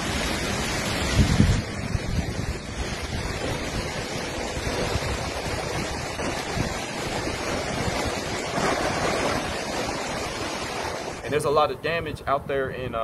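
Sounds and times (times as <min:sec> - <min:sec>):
steady rushing noise: 0:00.0 - 0:12.7.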